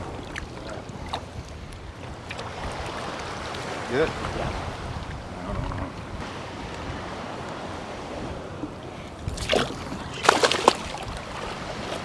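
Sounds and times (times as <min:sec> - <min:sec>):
water lapping and sloshing: 0:00.0 - 0:12.0
wind rumble on microphone: 0:00.0 - 0:12.0.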